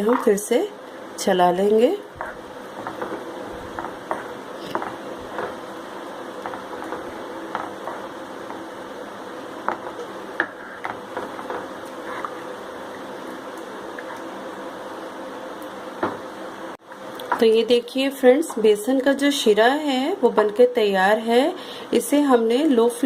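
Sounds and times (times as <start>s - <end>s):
steady low hum: 0.0s - 22.2s.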